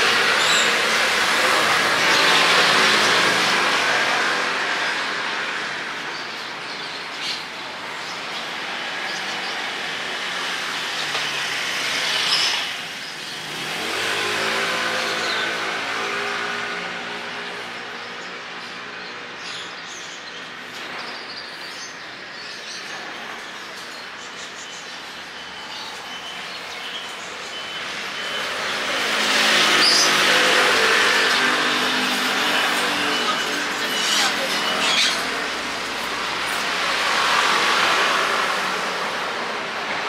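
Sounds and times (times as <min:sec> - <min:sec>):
vehicles passing close by: 0:00.0 - 0:40.0.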